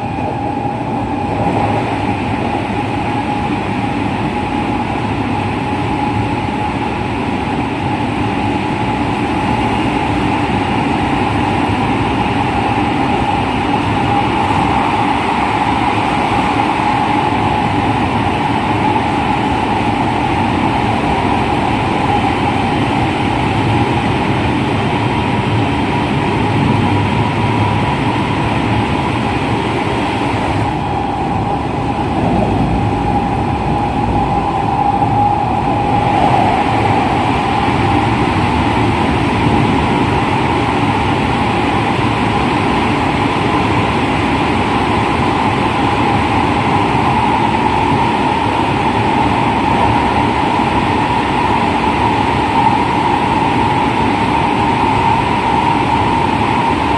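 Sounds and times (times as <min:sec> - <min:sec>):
wheels rumbling on rail: 0:00.0 - 0:56.9.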